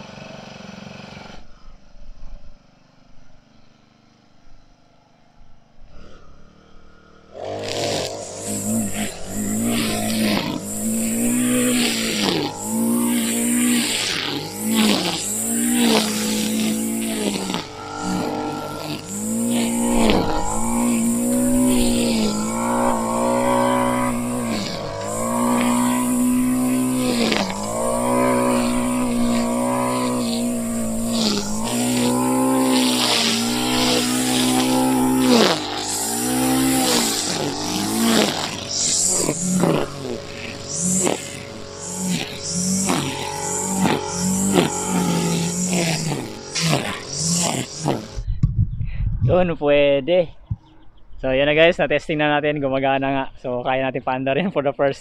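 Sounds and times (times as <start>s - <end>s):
line trimmer revving: 0.0s - 1.6s, 5.2s - 48.3s.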